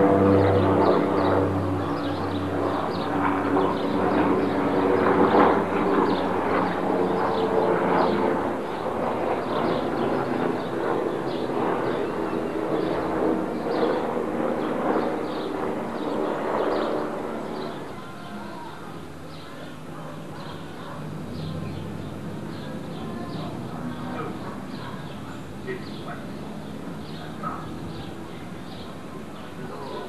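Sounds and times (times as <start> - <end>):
distant engine drone: 0.0 - 30.0.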